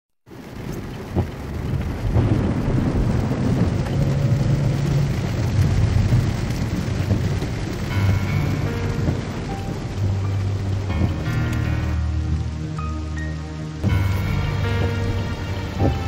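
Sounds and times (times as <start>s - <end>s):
heavy rain drumming on car roof: 0.2s - 16.0s.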